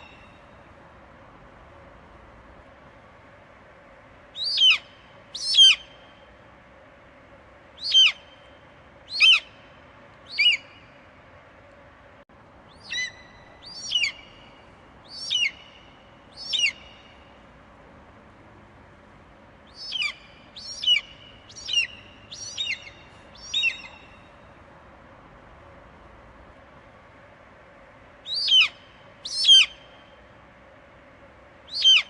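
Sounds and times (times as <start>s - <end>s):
faint background hiss: 0.0s - 32.0s.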